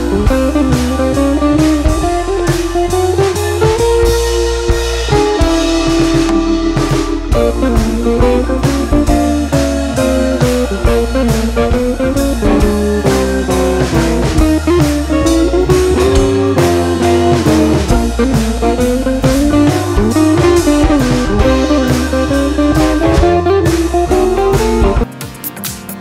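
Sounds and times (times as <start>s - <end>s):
drum kit beat: 0.0s - 26.0s
upbeat guitar music: 0.0s - 26.0s.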